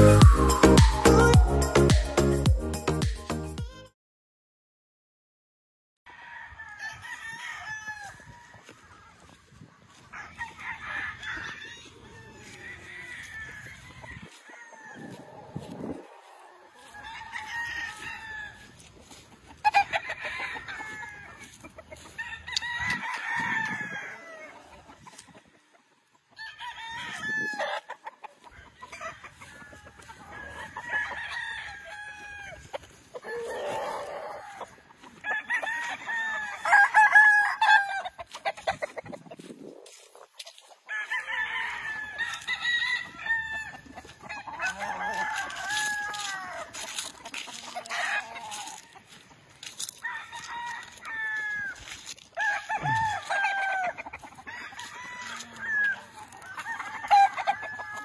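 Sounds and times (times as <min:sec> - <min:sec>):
roosters crowing: 0:00.0 - 0:02.5, 0:06.1 - 0:25.2, 0:26.4 - 0:39.1, 0:39.8 - 0:58.0.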